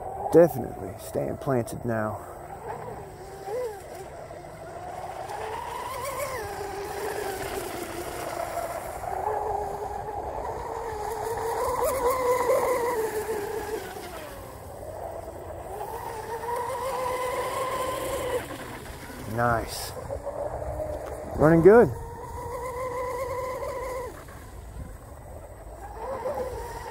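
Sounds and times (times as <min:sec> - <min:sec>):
rc boat motor whine: 0:00.0 - 0:26.9.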